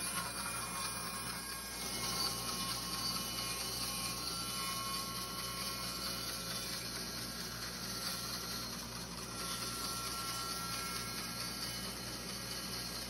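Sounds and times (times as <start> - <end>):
bandsaw cutting wood: 0.0 - 13.0
dust collector whirring: 0.0 - 13.0.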